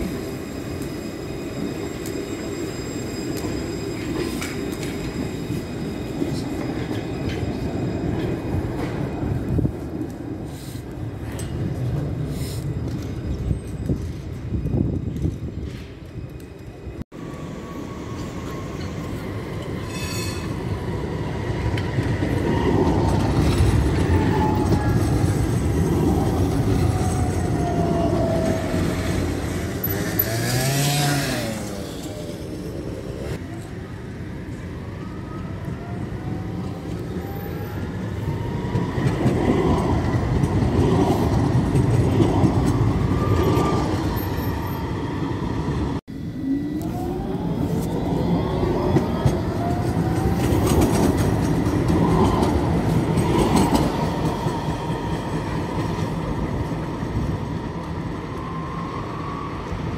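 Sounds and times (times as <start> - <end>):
tram rumbling on rails: 0.0 - 59.9.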